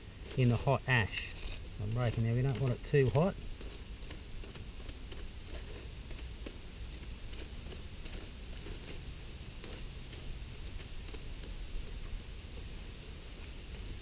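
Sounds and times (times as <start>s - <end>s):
fire crackles: 0.0s - 14.0s
stick scraping through ash: 0.0s - 14.0s.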